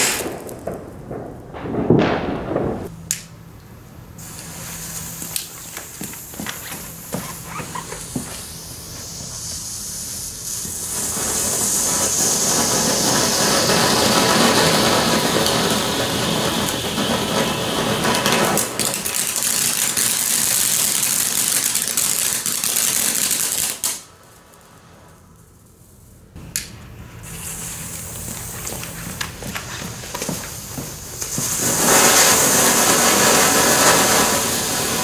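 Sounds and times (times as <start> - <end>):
firework fountain hissing: 0.0 - 3.2, 4.0 - 35.0
firework crackles: 0.0 - 3.4, 4.0 - 35.0.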